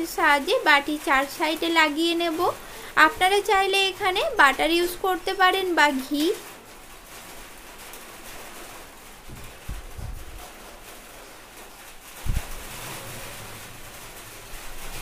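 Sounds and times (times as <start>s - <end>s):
brush on metal bowl: 0.0s - 15.0s.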